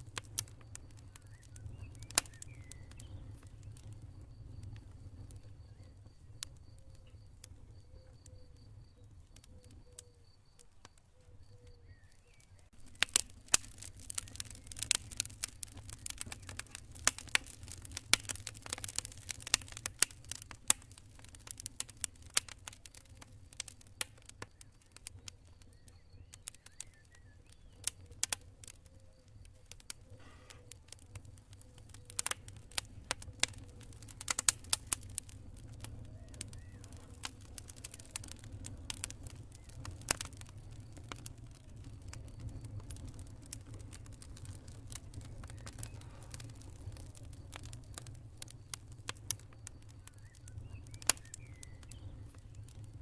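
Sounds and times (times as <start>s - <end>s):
campfire crackling and popping: 0.0s - 53.0s
faint high cricket chirp: 0.1s - 53.0s.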